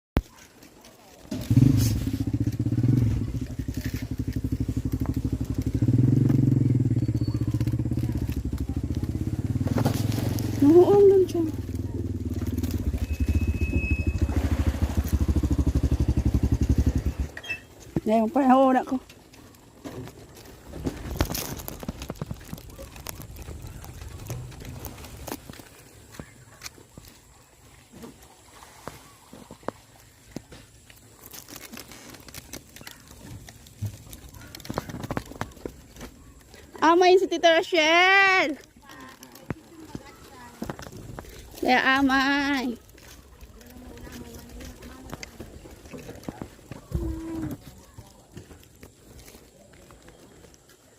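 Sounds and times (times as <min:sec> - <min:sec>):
small engine chugging: 0:00.3 - 0:50.9
footsteps walking: 0:07.4 - 0:50.9.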